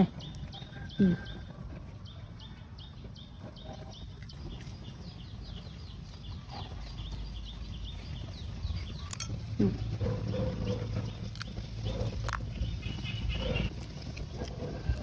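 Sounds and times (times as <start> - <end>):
bird chirping: 0.0 - 13.7.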